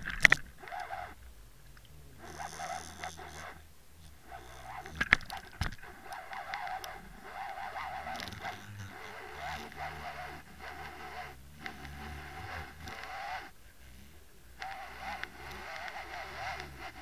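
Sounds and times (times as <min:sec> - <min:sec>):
water rushing over camera housing: 0:00.0 - 0:17.0.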